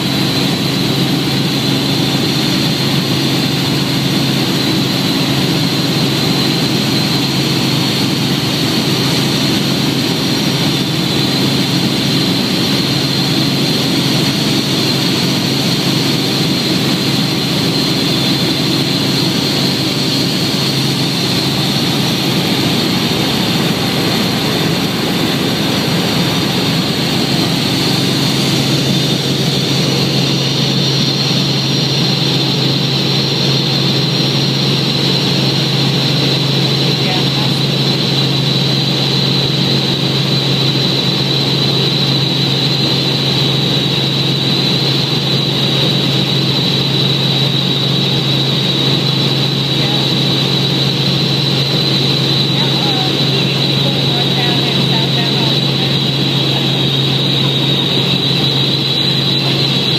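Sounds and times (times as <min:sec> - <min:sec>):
helicopter cabin drone: 0:00.0 - 0:59.9.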